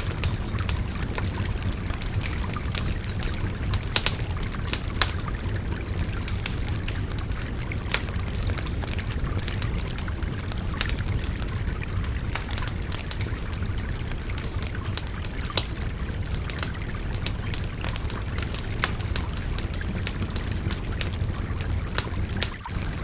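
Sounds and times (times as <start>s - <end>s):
babbling river: 0.0s - 23.0s
bonfire crackling and popping: 0.0s - 23.0s.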